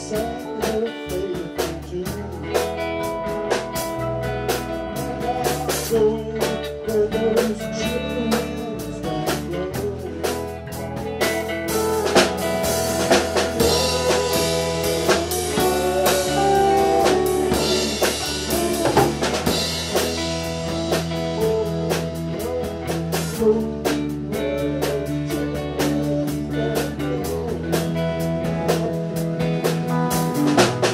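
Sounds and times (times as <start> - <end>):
blues band music: 0.0 - 30.9.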